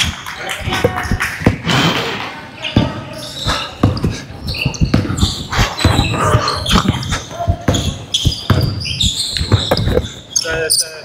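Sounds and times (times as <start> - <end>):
basketballs bouncing on wooden floor: 0.0 - 1.8, 2.6 - 10.7
sneakers squeaking: 0.0 - 11.0.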